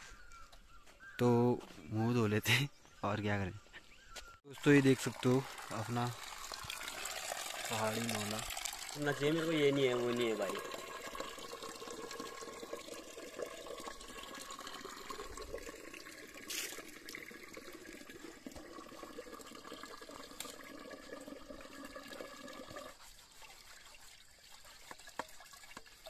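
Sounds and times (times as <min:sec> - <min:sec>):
water splashing into a steel pot: 0:04.5 - 0:26.0
cookware being washed: 0:04.6 - 0:26.0.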